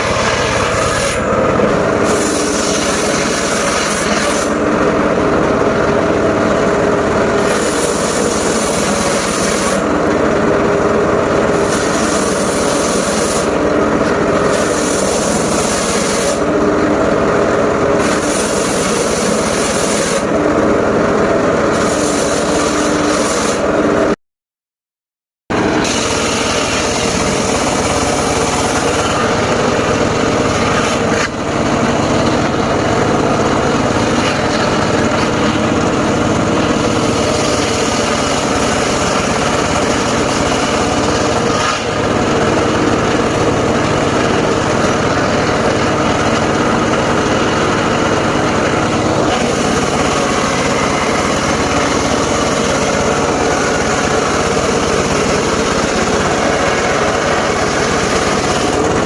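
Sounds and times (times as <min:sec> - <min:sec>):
sawmill motor and blade droning: 0:00.0 - 0:24.2, 0:25.5 - 0:59.0.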